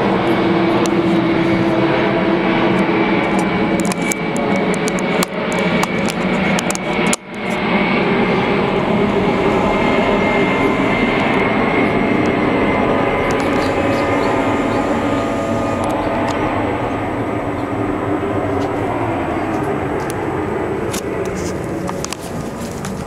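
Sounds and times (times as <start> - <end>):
airplane engine overhead: 0.0 - 23.0.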